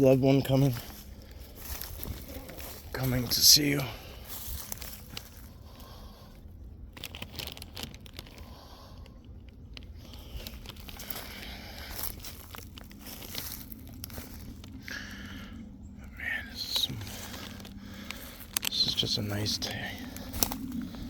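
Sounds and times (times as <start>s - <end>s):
light crackling and rustling: 0.0s - 15.5s, 16.2s - 21.0s
faint low hum: 0.0s - 21.0s
small crunches and clicks: 0.5s - 21.0s.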